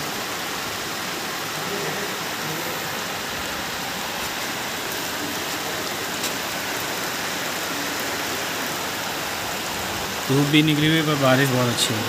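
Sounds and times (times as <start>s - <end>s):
heavy rain on plastic sheeting: 0.0s - 12.0s.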